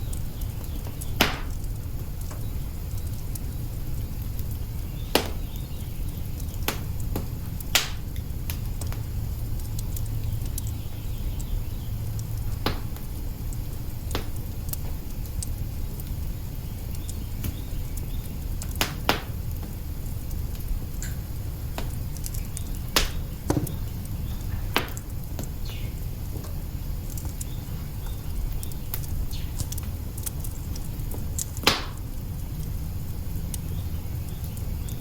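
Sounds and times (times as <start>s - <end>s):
burning logs popping: 0.0s - 35.0s
fire low rumble: 0.0s - 35.0s.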